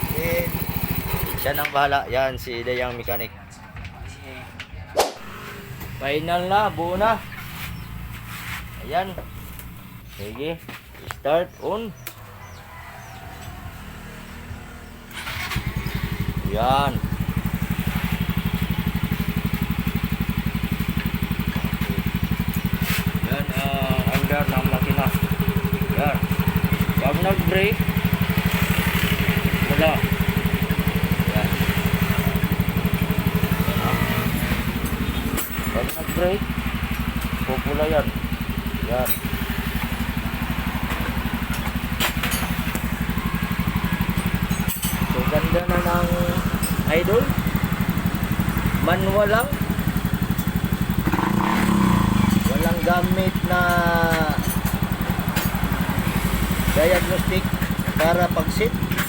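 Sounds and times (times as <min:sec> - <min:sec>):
scooter engine idling: 0:00.0 - 0:02.6, 0:05.4 - 0:59.0.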